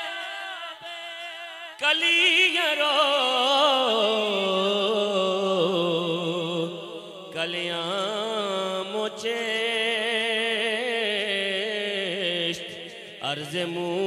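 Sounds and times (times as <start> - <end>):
man chanting with vibrato: 0.0 - 14.0.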